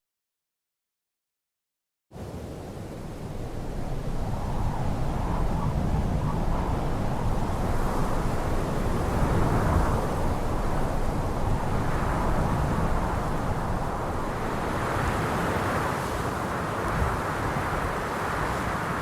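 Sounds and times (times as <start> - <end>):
wind blowing: 2.4 - 19.0.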